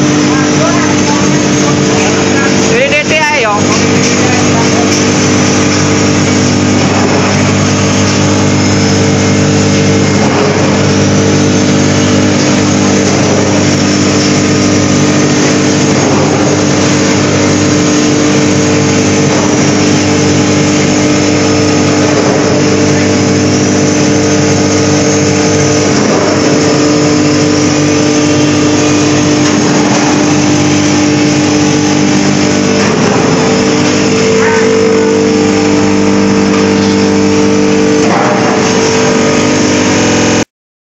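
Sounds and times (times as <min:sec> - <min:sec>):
drum dryer mechanical hum: 0:00.0 - 0:40.5.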